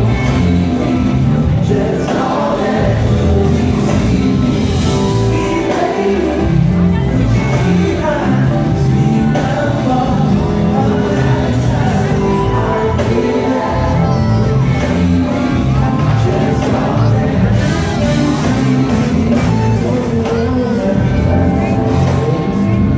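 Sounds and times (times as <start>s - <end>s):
live band with singer: 0.0s - 22.9s.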